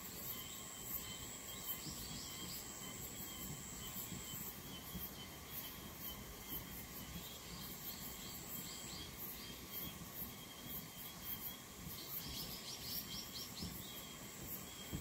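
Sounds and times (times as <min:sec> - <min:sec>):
insects trilling and chirping: 0:00.0 - 0:15.0.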